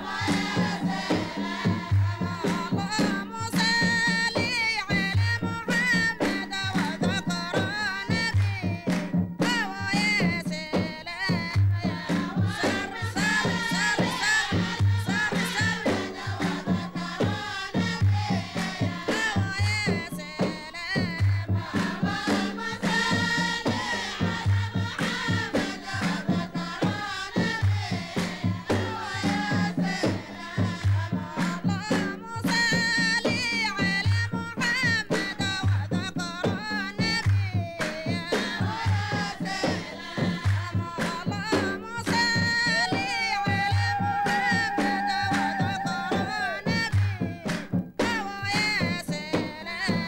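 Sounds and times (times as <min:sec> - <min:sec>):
deep drum: 0:00.0 - 0:50.0
frame drums rhythm: 0:00.0 - 0:50.0
group singing in chorus: 0:00.0 - 0:50.0
handclaps: 0:00.1 - 0:50.0.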